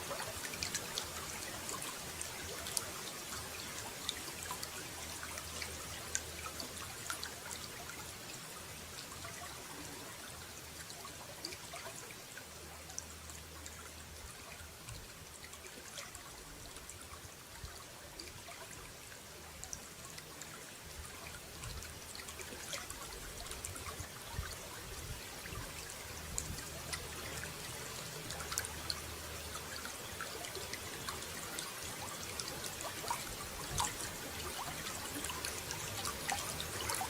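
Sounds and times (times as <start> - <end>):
water trickling and pouring: 0.0 - 37.0.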